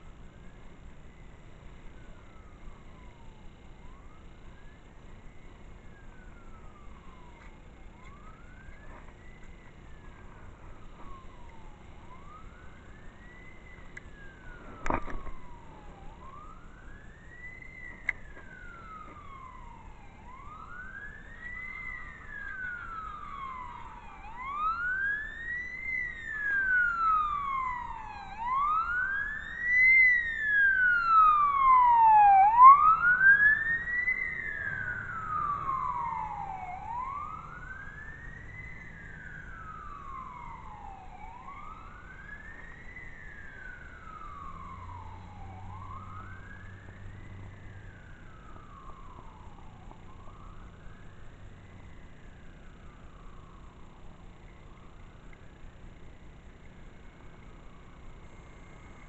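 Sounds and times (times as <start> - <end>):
distant siren wailing: 0.0 - 59.0.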